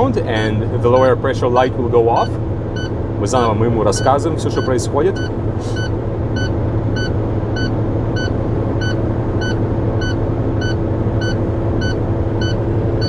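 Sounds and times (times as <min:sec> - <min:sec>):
diesel engine running: 0:00.0 - 0:13.0
warning alarm beeping: 0:02.2 - 0:12.6.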